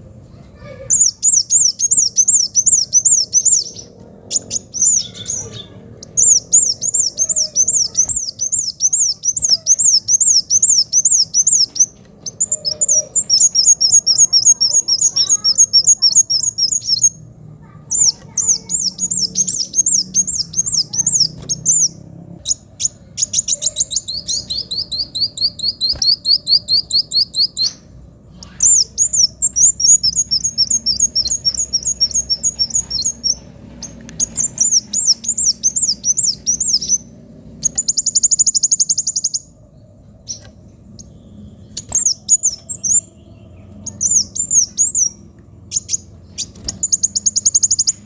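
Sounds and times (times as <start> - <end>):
sunbird singing trilled phrases: 0.4 - 48.0.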